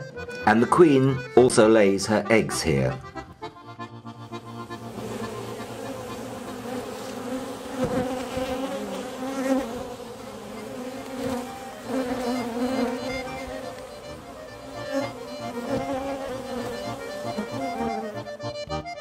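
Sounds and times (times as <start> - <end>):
bees buzzing: 3.0 - 19.0.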